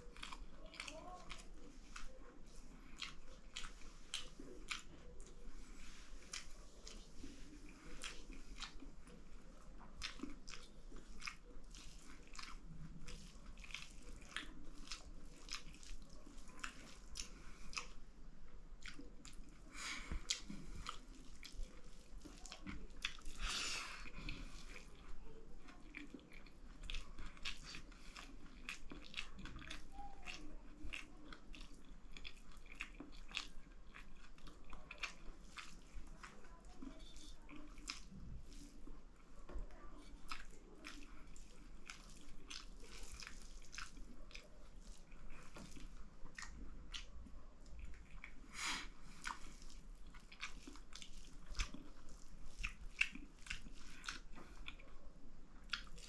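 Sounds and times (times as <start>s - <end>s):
wet chewing and mouth clicks: 0.0s - 56.0s.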